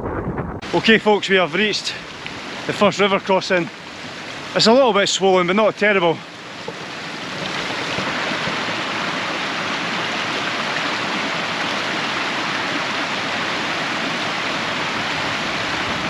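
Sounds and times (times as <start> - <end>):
river rushing over rocks: 0.7 - 16.0.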